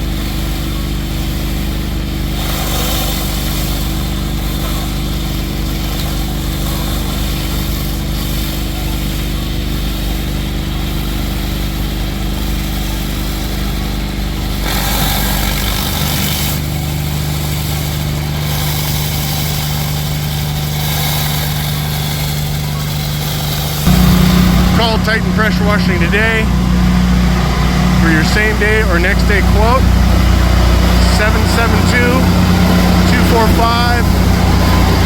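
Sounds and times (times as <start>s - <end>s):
high-pressure water spray hissing: 0.0s - 24.8s, 26.8s - 35.0s
pressure washer engine running: 0.0s - 35.0s.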